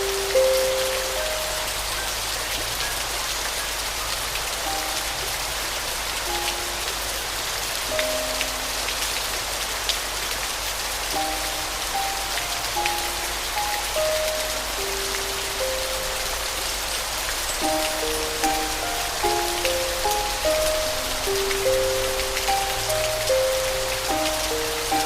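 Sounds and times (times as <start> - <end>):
slow piano notes: 0.0 - 25.0
steady rain falling: 0.0 - 25.0.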